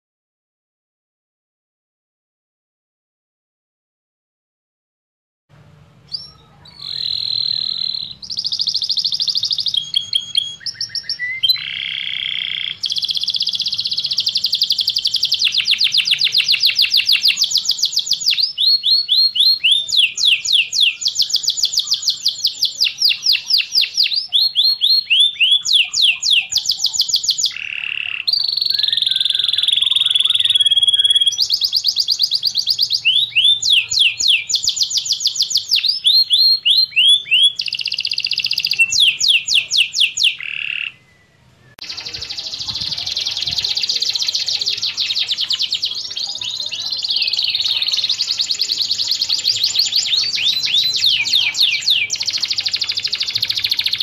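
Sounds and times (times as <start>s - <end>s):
canary singing trills: 6.1s - 54.0s.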